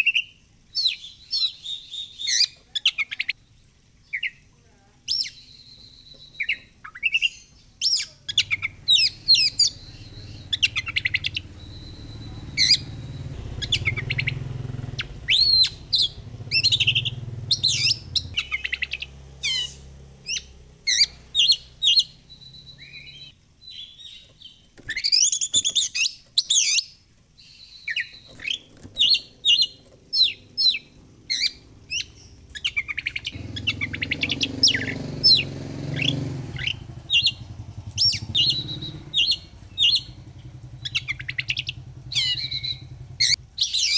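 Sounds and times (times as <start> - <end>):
bird singing whistled song: 0.0 - 4.5, 5.1 - 43.9
low background rumble: 3.4 - 43.9.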